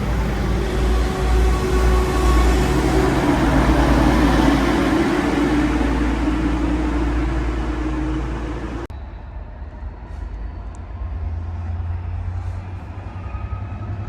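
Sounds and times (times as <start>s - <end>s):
train running loudly: 0.0s - 14.0s.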